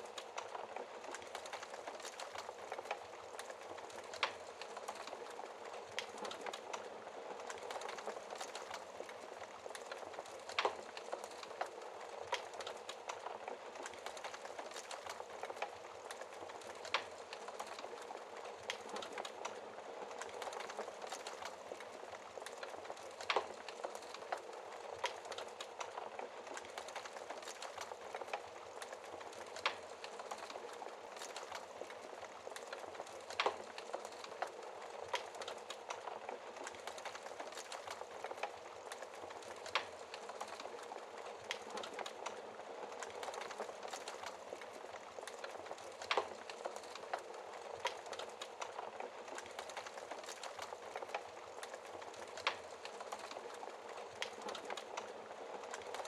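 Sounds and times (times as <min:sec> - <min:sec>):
fire popping: 0:00.0 - 0:56.0.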